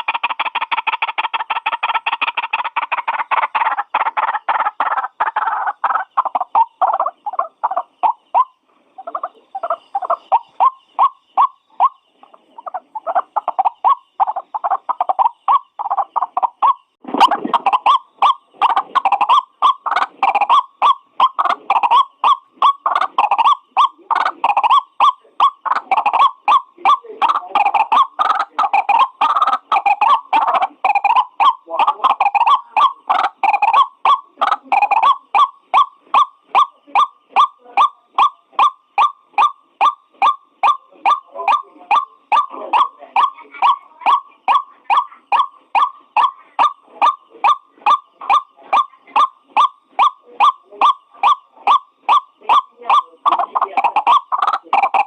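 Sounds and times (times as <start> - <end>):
waterhen calling harsh notes: 0.0 - 55.0.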